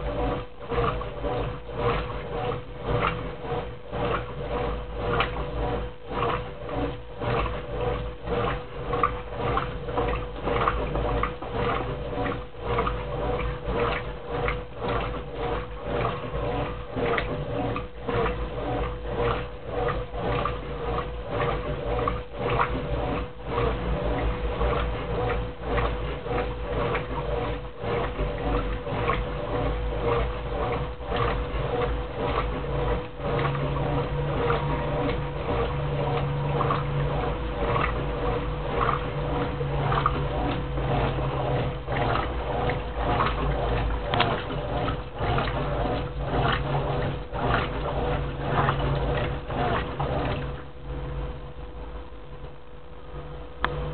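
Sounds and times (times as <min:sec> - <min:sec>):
washing machine motor hum: 0:00.0 - 0:53.9
water sloshing and churning: 0:00.0 - 0:53.9.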